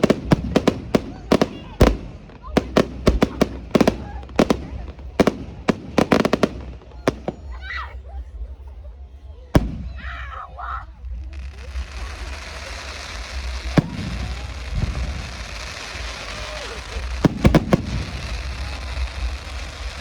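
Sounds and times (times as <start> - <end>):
firework bangs and crackles: 0.0 - 20.0.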